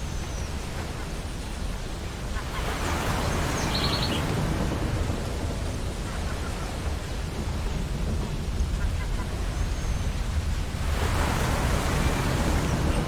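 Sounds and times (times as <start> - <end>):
ocean surf on beach: 1.3 - 13.0.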